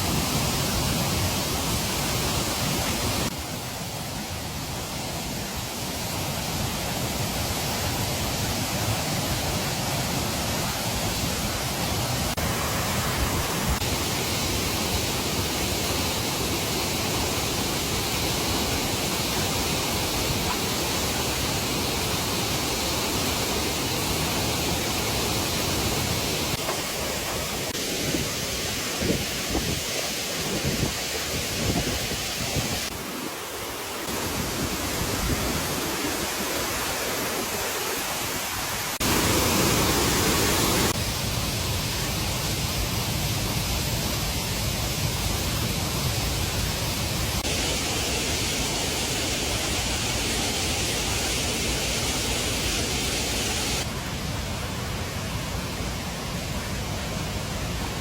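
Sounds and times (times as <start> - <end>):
rain: 0.0 - 58.0
running water: 0.0 - 58.0.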